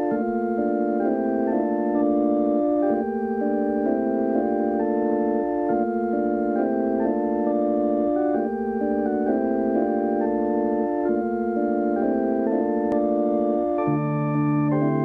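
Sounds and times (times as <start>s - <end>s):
electric organs playing held chords: 0.0s - 15.0s.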